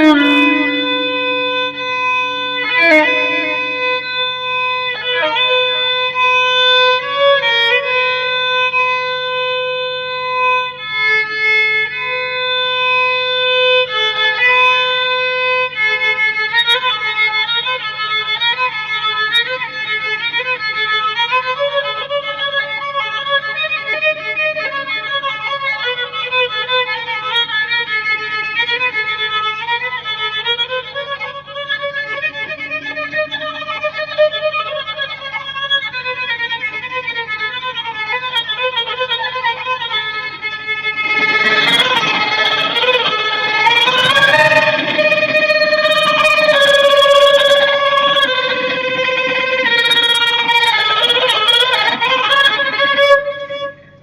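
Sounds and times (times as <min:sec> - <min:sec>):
solo violin: 0:00.0 - 0:54.0.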